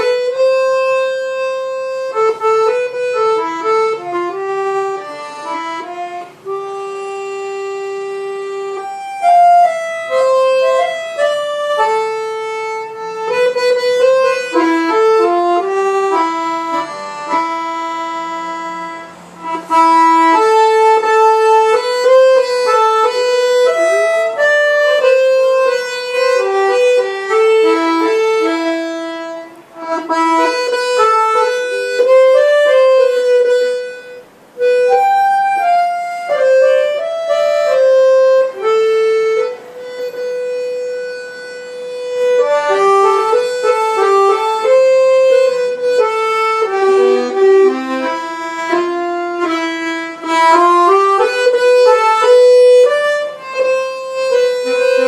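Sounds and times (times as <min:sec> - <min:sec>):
accordion melody: 0:00.0 - 0:55.0.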